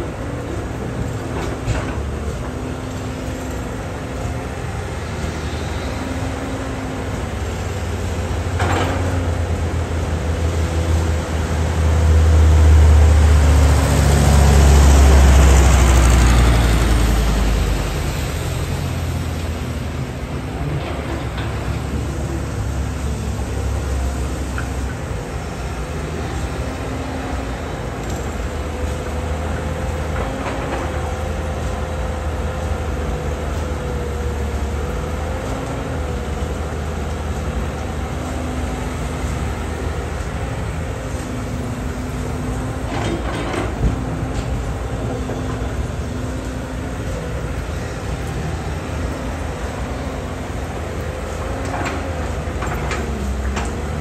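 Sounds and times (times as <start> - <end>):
excavator diesel engine rumbling: 0.0 - 54.0.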